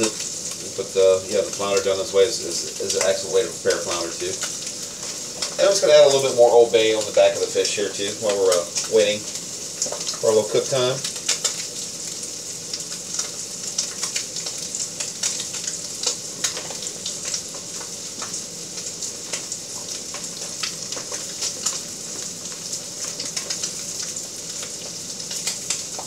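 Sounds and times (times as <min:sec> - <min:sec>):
fish sizzling in a pan: 0:00.0 - 0:26.0.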